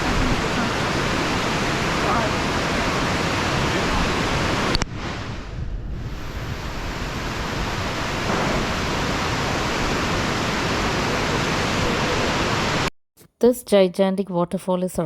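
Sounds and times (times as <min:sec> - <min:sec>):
waterfall roaring: 0:00.0 - 0:05.4, 0:06.1 - 0:12.9
wind on microphone: 0:00.0 - 0:12.9.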